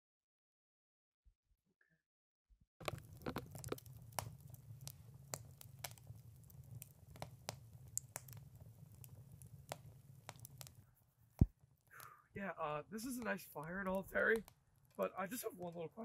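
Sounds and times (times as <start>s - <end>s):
fire crackling and popping: 2.8s - 16.0s
low rumble of flames: 2.8s - 16.0s.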